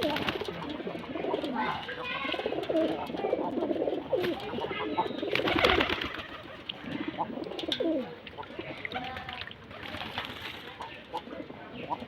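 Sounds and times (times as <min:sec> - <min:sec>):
pigeons cooing: 0:00.0 - 0:08.9, 0:10.7 - 0:12.0.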